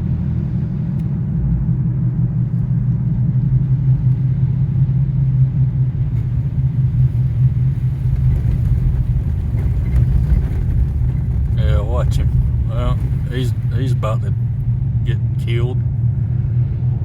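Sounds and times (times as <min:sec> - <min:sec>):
car driving: 0:00.0 - 0:17.0.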